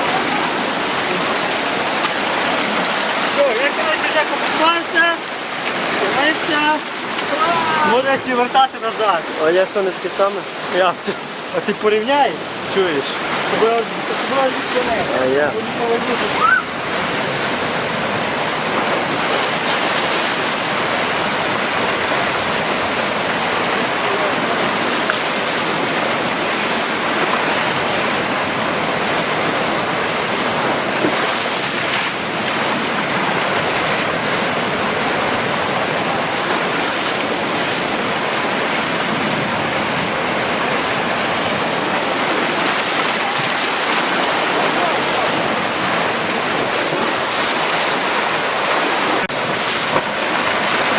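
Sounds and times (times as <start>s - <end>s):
surf breaking on rocky shore: 0.0s - 50.9s.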